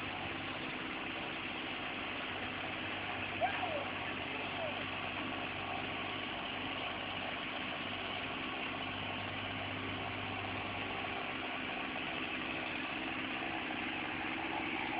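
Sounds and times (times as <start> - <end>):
engine idling: 0.0 - 14.9.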